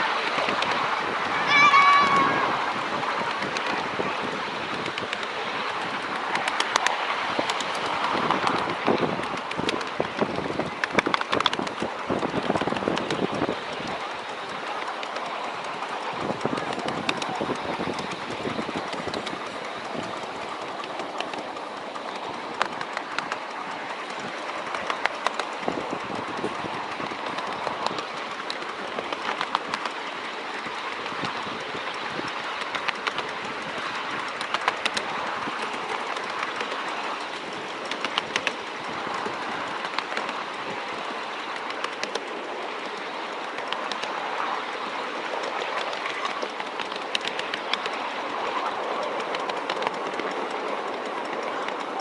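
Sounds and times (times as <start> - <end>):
miniature train rumbling on track: 0.0 - 52.0
wheels clicking over rail joints: 0.0 - 52.0.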